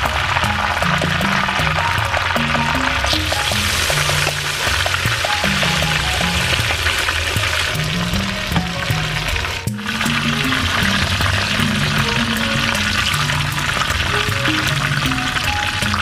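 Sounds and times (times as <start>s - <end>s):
background music: 0.0s - 16.0s
chicken sizzling in oil: 0.0s - 16.0s.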